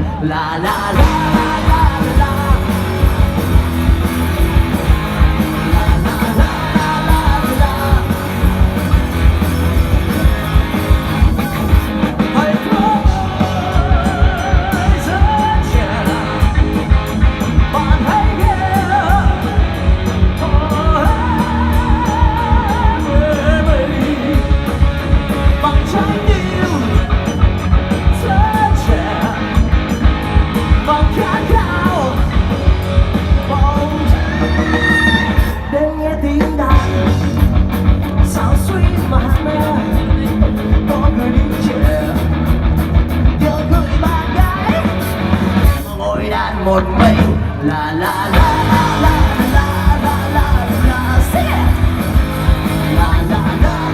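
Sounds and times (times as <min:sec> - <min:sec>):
rock band playing live: 0:00.0 - 0:53.9.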